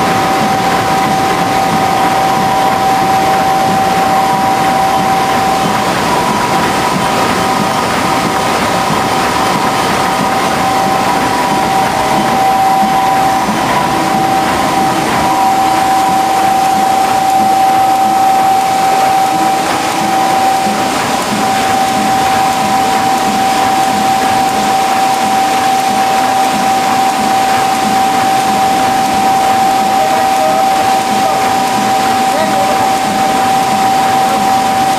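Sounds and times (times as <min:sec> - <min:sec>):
machine running with constant whine: 0:00.0 - 0:34.9.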